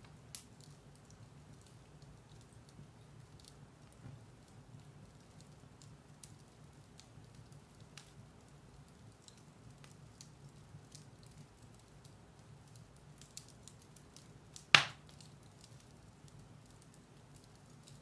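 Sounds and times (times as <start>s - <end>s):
fire crackles and pops: 0.0s - 18.0s
low rumble of fire: 0.0s - 18.0s.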